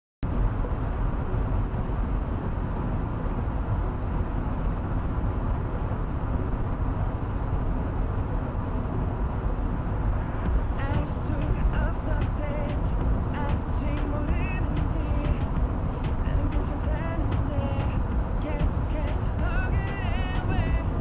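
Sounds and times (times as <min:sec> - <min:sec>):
road rumble: 0:00.2 - 0:21.0
muffled rain: 0:00.3 - 0:21.0.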